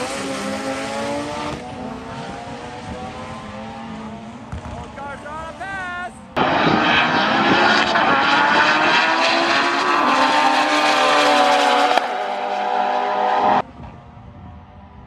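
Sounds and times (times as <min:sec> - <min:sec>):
drag car engines at full throttle: 0:00.0 - 0:05.5, 0:06.1 - 0:15.0.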